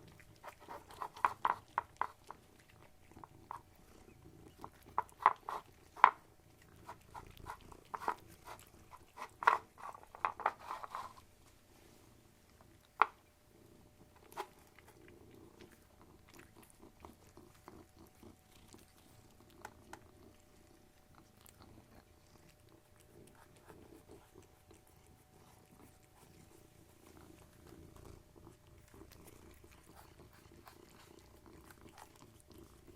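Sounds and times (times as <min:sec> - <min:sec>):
cat chewing with crunching: 0:00.0 - 0:32.9.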